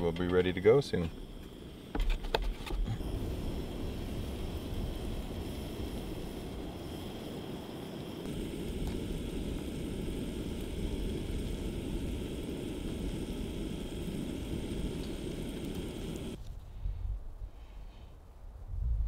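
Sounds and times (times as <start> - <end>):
camp stove burner hissing: 0.0 - 16.4.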